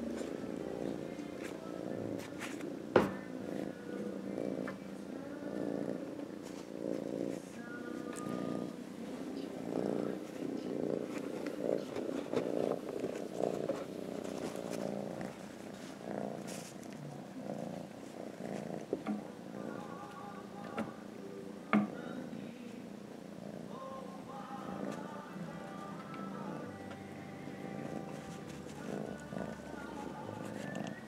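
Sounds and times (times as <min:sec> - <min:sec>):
kitten purring: 0:00.0 - 0:21.2, 0:21.8 - 0:31.0.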